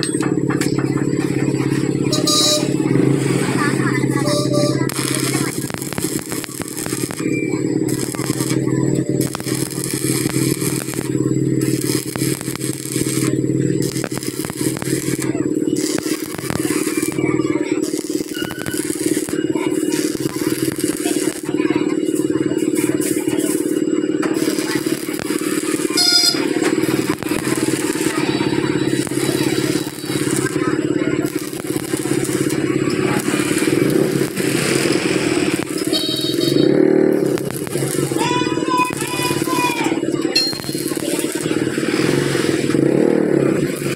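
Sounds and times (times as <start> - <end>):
loud buzz: 0.0 - 43.9
steady low hum: 0.0 - 43.9
welding arc crackling and sizzling: 0.0 - 43.9.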